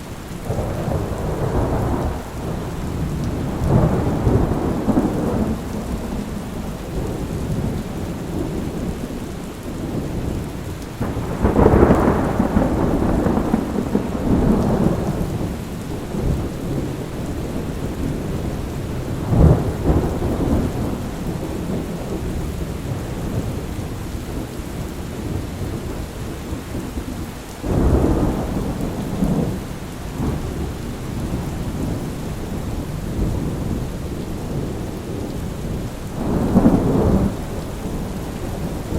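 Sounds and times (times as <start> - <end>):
rolling thunder: 0.0 - 38.9
steady rain: 0.0 - 38.9.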